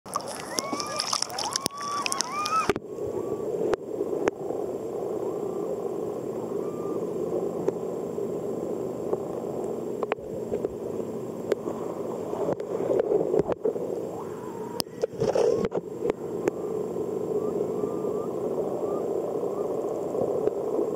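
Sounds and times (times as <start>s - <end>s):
muffled underwater hiss: 0.1s - 20.9s.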